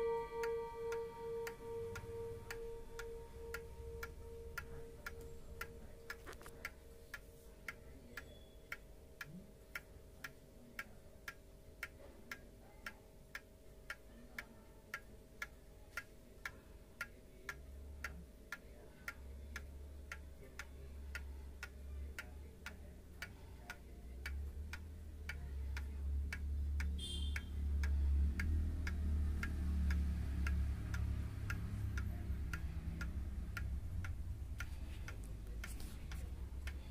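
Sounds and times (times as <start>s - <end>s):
wall clock ticking: 0.0s - 36.9s.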